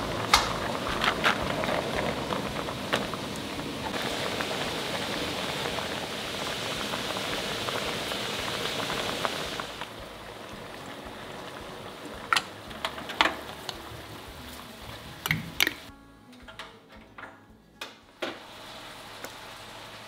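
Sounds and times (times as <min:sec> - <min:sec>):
pot of liquid boiling: 0:00.0 - 0:15.9, 0:18.2 - 0:20.0.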